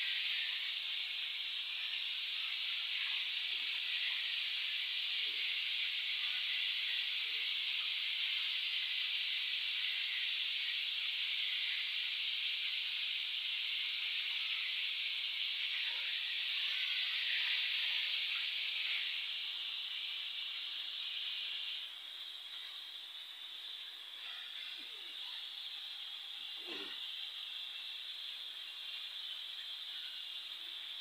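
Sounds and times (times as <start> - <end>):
chicken deep-frying in oil: 0.0 - 31.0.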